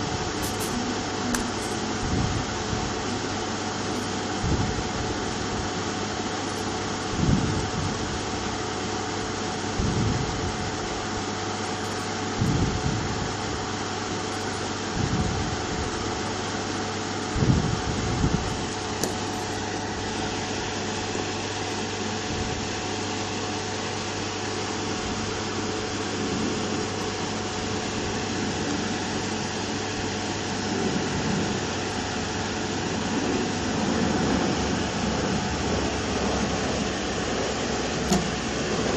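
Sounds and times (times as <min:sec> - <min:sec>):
hot-air station hissing: 0:00.0 - 0:38.9.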